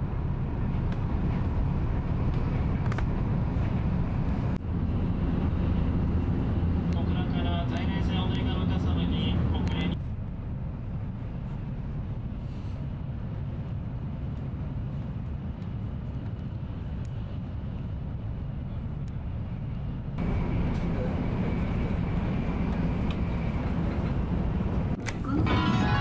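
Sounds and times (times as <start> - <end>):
train cabin rumble: 0.0 - 26.0.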